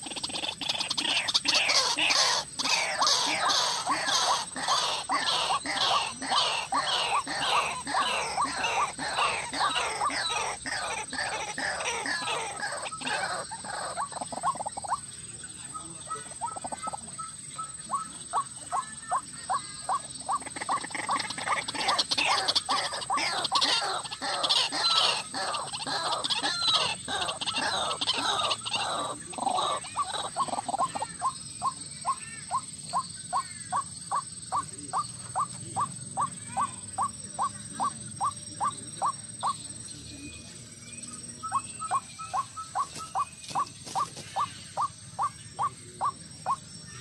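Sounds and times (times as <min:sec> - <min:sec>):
overlapping higher bird calls: 0:00.0 - 0:47.0.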